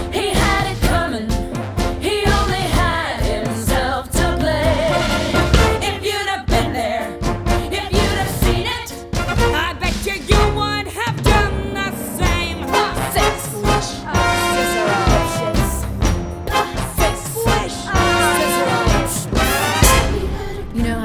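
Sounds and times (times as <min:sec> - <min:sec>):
band playing tango: 0:00.0 - 0:20.4
voices singing: 0:00.0 - 0:21.0.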